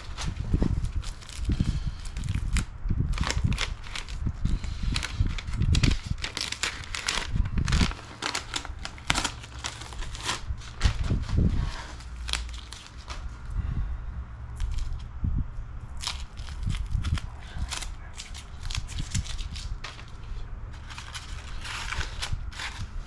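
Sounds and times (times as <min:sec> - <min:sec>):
tape and paper peeled and crumpled: 0:00.0 - 0:13.5, 0:14.6 - 0:15.1, 0:15.9 - 0:23.0.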